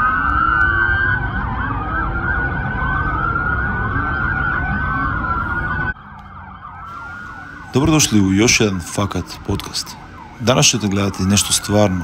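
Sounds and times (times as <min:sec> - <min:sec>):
police sirens wailing: 0:00.0 - 0:12.0.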